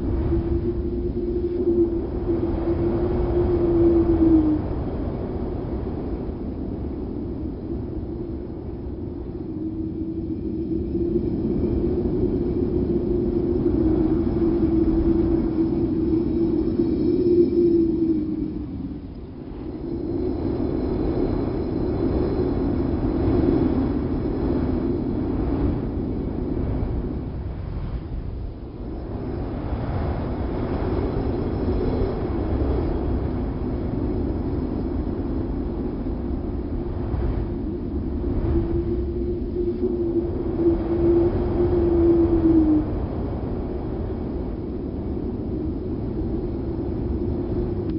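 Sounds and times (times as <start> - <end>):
low rumbling wind gust: 0.0 - 47.9.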